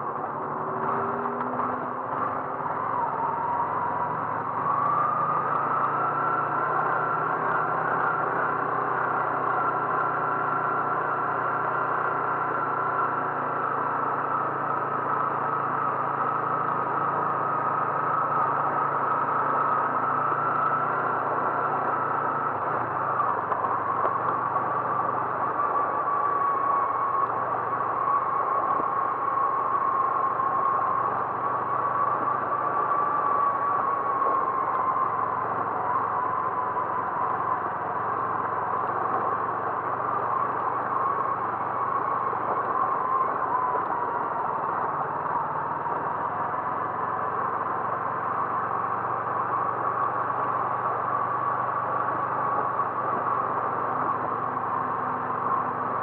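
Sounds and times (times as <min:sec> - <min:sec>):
car engine and road noise: 0:00.0 - 0:56.0
faint whine: 0:00.0 - 0:56.0.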